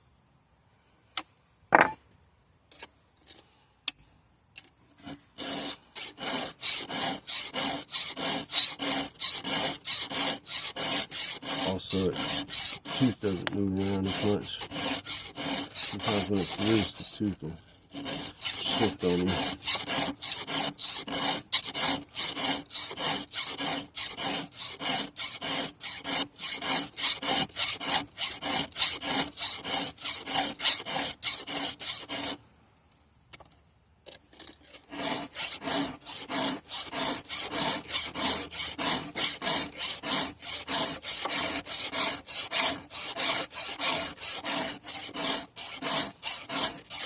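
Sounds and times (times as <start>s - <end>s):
file rasping on saw chain: 5.0s - 32.4s, 34.3s - 47.0s.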